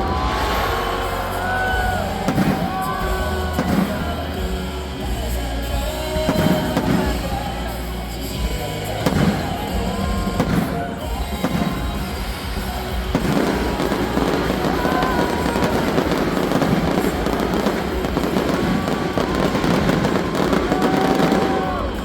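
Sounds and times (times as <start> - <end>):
fireworks bangs and crackling: 0.0 - 22.0
music playing: 0.0 - 22.0.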